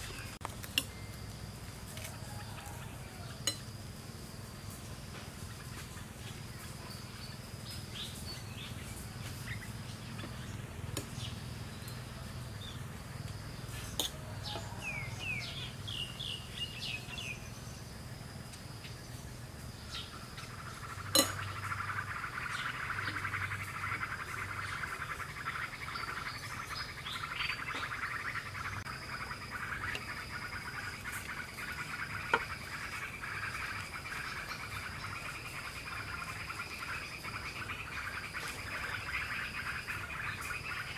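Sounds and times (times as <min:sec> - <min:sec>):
birds chirping: 0:00.0 - 0:40.9
high insect call: 0:00.0 - 0:40.9.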